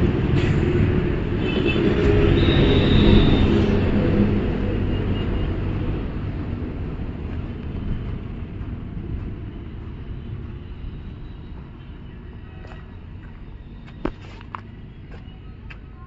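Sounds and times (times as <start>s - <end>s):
passing vehicle engine rumble: 0.0s - 16.0s.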